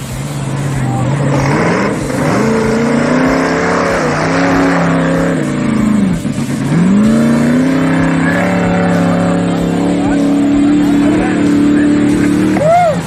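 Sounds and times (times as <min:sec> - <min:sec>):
race vehicle engine revving: 0:00.0 - 0:13.0.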